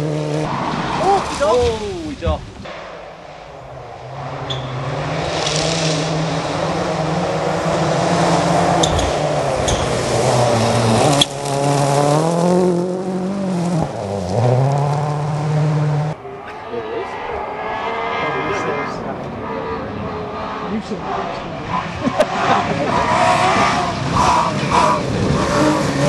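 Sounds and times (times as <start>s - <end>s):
rally car engine passing: 2.8s - 26.0s.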